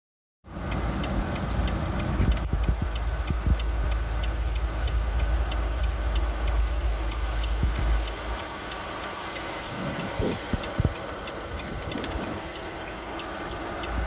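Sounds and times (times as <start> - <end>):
faint even ticking: 0.5 - 14.0
wind rumbling on microphone: 0.7 - 14.0.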